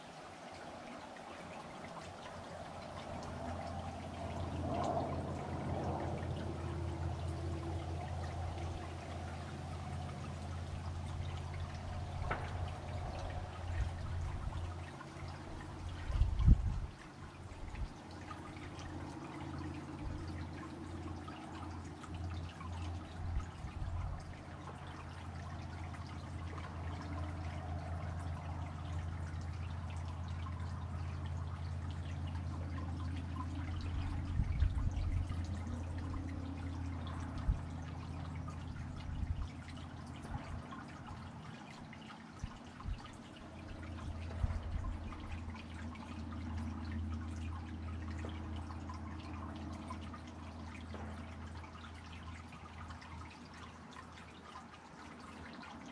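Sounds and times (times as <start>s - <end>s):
fountain trickling and splashing: 0.0s - 55.9s
low steady hum: 0.0s - 55.9s.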